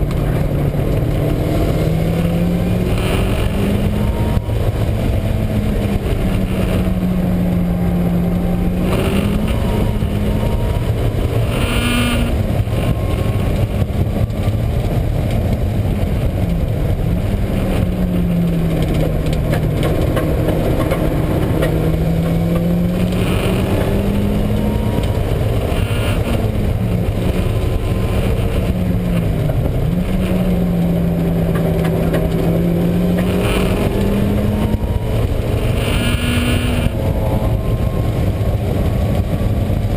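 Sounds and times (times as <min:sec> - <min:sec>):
car engine revving: 0:00.0 - 0:39.9
droning wheel bearing hum: 0:00.0 - 0:39.9.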